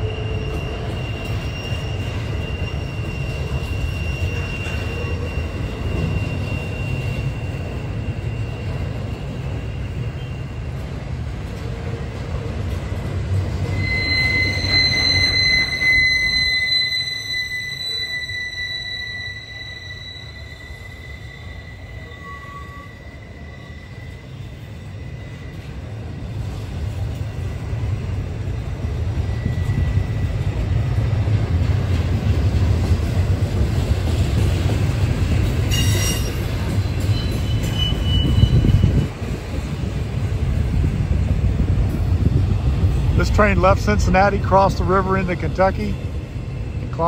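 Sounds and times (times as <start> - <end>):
wheel squeals: 0.0 - 28.2, 28.8 - 41.2
freight train wheels rumbling: 0.0 - 47.0.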